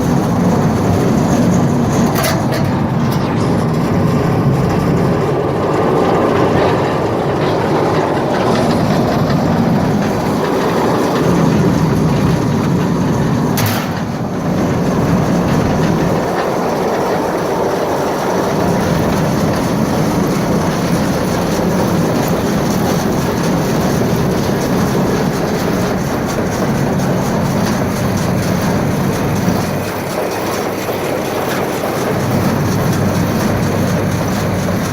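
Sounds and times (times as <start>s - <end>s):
grinder mixer rattling: 0.0s - 34.9s.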